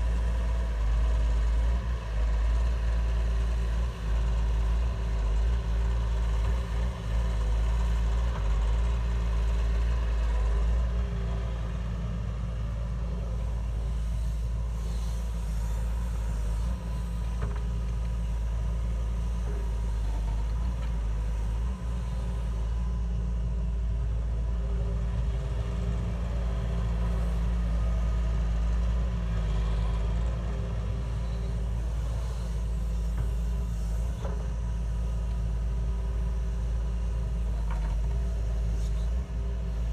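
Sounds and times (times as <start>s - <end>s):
heavy machine engine rumbling: 0.0s - 39.9s.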